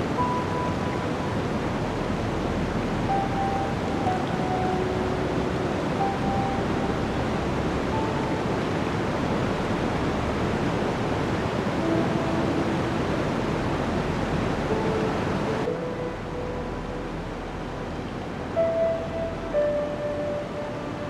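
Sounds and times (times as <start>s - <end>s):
blizzard wind blowing: 0.0s - 18.8s.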